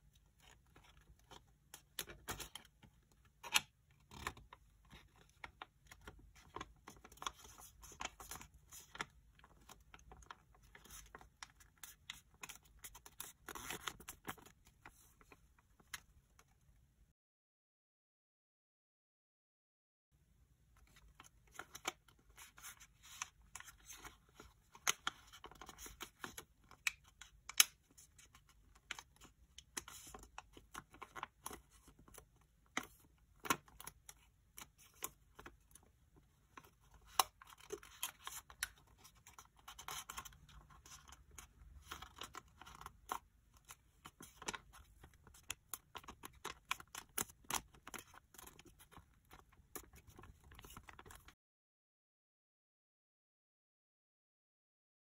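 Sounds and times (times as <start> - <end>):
paper rustling and crinkling: 0.2 - 16.2, 20.8 - 51.4.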